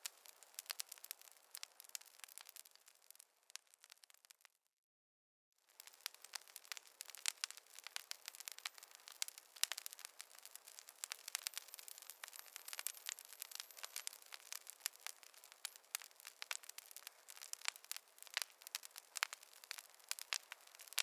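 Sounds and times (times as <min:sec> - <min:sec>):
wood fire crackling: 0:00.0 - 0:04.5, 0:05.6 - 0:21.0.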